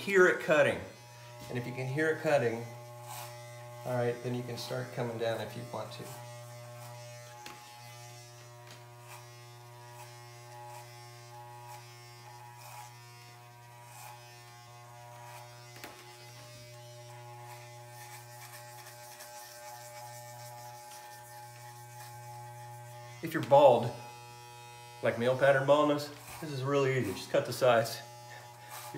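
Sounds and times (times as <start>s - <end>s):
blade crackling through hair: 0.0s - 28.9s
electric hair clippers buzzing: 0.0s - 28.9s.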